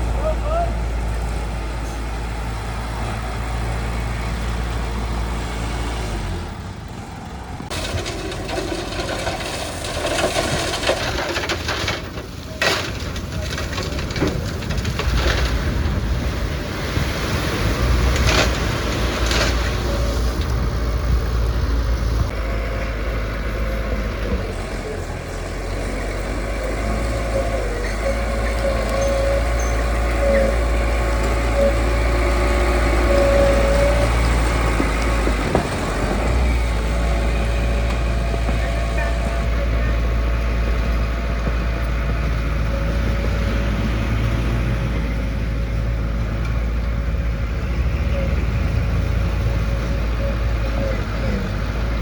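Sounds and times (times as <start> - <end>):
diesel machinery engine rumble: 0.0 - 52.0.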